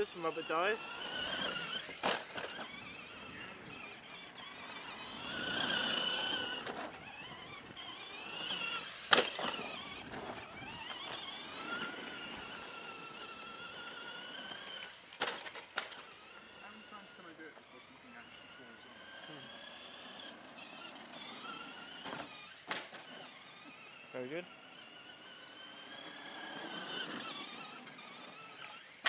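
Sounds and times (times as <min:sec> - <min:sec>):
toy truck motor whining: 0:00.0 - 0:29.0
tyres rumbling on tarmac: 0:00.0 - 0:29.0.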